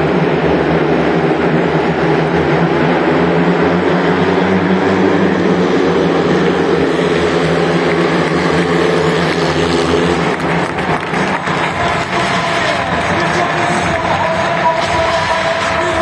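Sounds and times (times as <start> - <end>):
motorcycle engines racing: 0.0 - 16.0.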